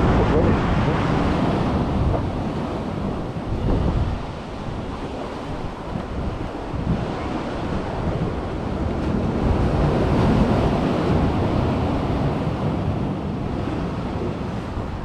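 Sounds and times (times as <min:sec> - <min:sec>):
sea waves breaking: 0:00.0 - 0:15.0
wind rumbling on microphone: 0:00.0 - 0:15.0.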